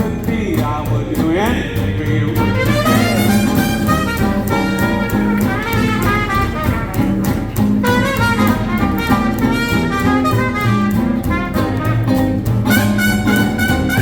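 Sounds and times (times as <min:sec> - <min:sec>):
swing jazz band playing: 0:00.0 - 0:14.0.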